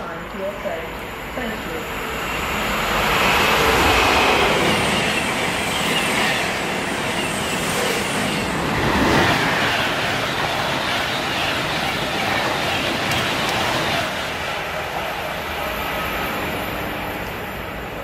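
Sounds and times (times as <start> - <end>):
train passing at high speed: 0.0 - 18.0.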